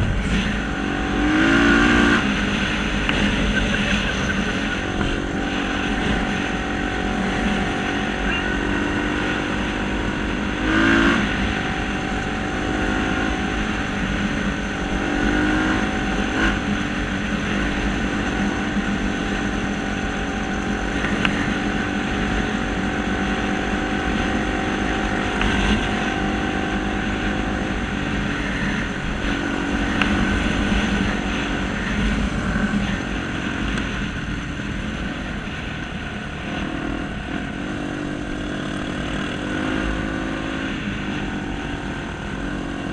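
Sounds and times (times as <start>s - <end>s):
vehicle engine revving: 0.0s - 42.9s.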